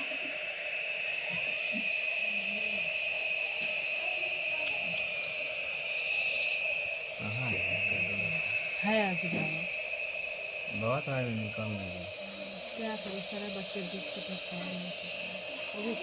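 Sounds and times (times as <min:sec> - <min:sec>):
nebulizer machine humming and hissing: 0:00.0 - 0:16.0.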